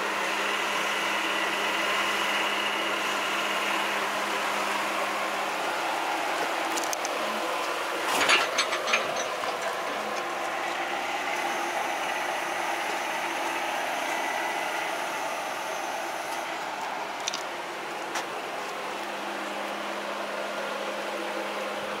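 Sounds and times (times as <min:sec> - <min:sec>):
engine running at low speed: 0:00.0 - 0:22.0.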